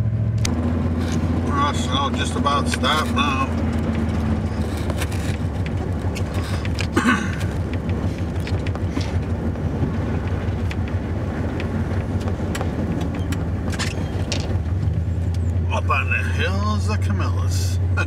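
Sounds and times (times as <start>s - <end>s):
truck engine drone: 0.0s - 18.0s.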